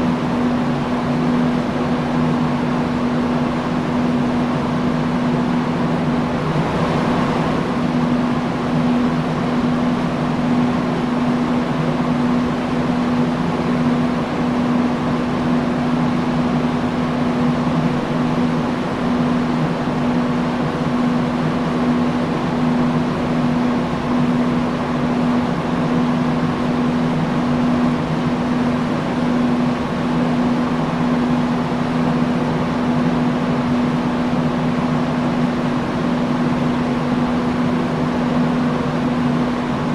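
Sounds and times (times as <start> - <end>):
industrial fan running: 0.0 - 39.9.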